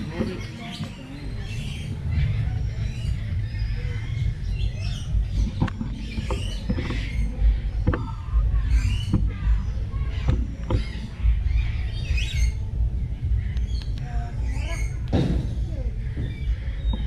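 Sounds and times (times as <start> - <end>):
loud low rumble: 0.0 - 17.0
small birds chirping: 0.0 - 17.0.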